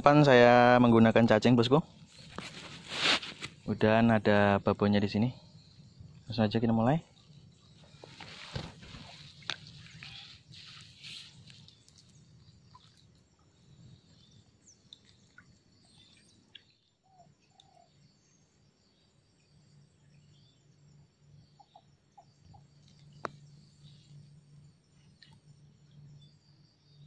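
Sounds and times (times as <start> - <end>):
faint high insect hum: 0.0 - 27.0
faint bird chirps: 3.7 - 27.0.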